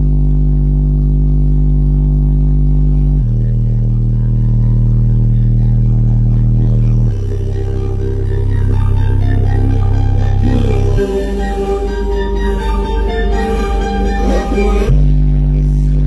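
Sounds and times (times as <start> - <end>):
subwoofer playing deep bass notes: 0.0 - 16.0.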